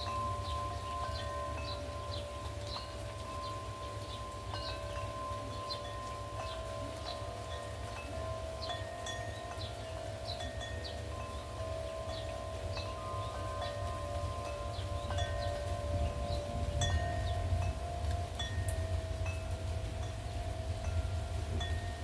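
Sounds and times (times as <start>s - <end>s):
metal wind chimes ringing: 0.0s - 22.0s
wind rumble on microphone: 0.0s - 22.0s.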